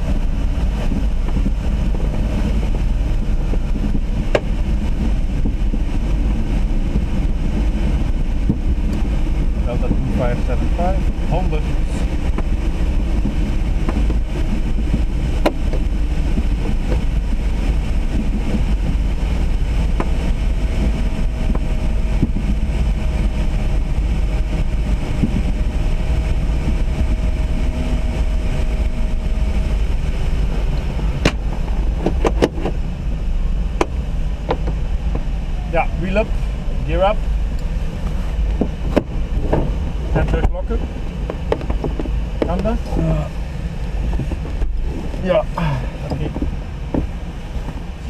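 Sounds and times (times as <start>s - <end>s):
airflow rushing: 0.0s - 48.0s
wind buffeting microphone: 0.0s - 48.0s.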